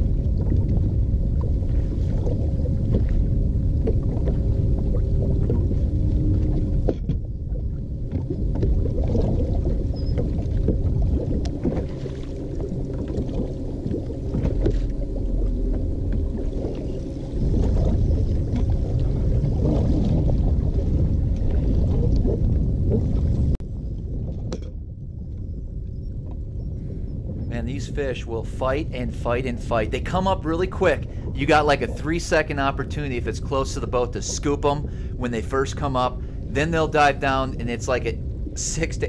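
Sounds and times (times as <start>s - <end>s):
steady low hum: 0.0s - 39.0s
water slapping boat hull: 0.0s - 39.0s
wind buffeting microphone: 0.0s - 39.0s.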